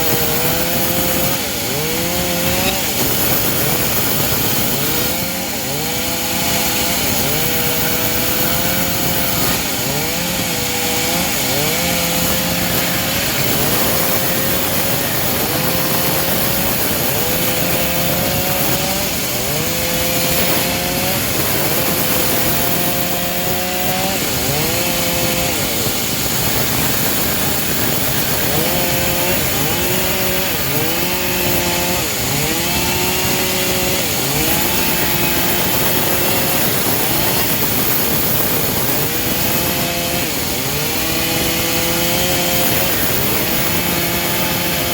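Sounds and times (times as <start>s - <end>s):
bandsaw sawmill cutting wood: 0.0s - 44.9s.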